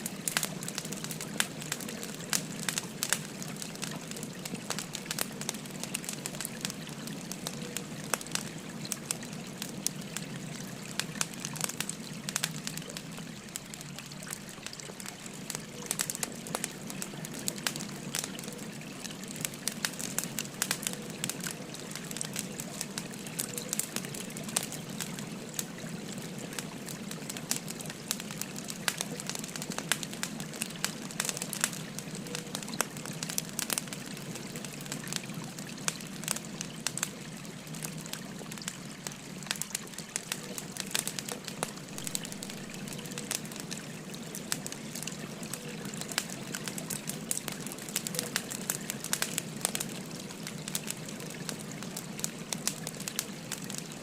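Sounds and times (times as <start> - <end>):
stream babbling: 0.0 - 54.0
wood fire crackling and popping: 0.0 - 54.0.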